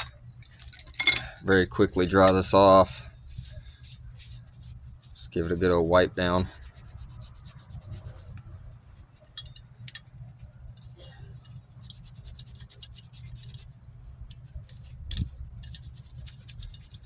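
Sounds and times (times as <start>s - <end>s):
steady low hum: 0.0s - 17.0s
rag wiping metal part: 2.0s - 8.4s, 9.2s - 17.0s.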